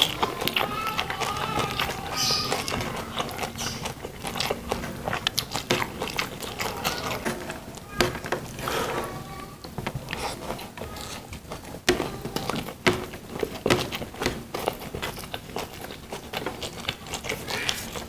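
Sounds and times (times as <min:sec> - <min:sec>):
man chewing food: 0:00.0 - 0:18.0.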